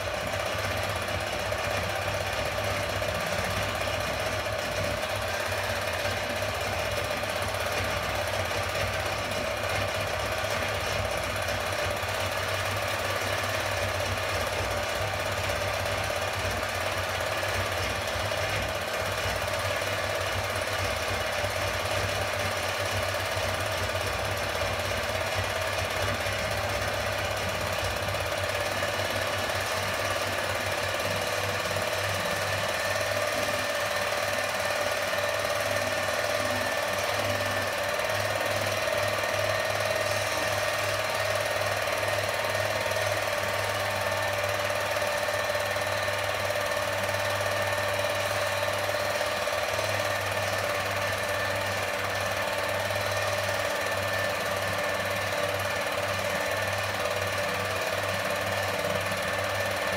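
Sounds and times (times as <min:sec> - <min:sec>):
film projector clatter: 0:00.0 - 0:59.9
projector whine: 0:00.0 - 0:59.9.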